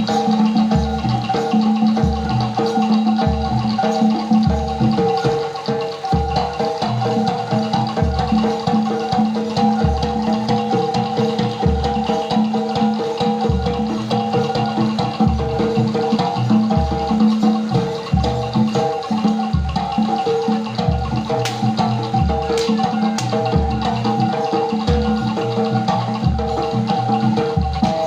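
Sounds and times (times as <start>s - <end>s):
metal percussion melody: 0.0s - 28.0s.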